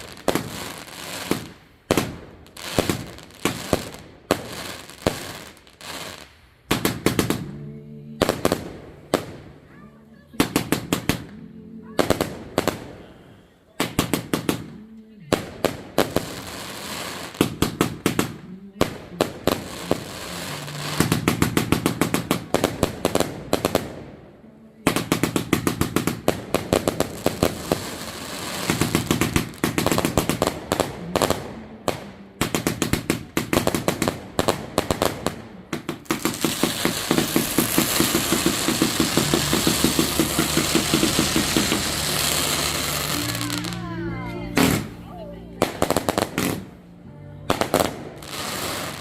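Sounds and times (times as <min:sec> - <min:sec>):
fireworks bangs and crackling: 0:00.0 - 0:46.8, 0:47.5 - 0:49.0.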